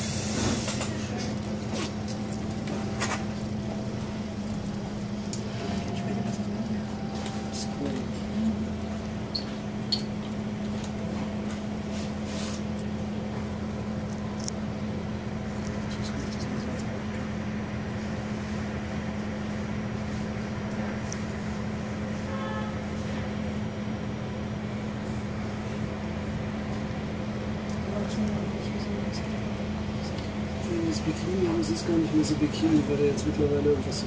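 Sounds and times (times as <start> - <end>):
bus engine idling hum: 0.0 - 34.0.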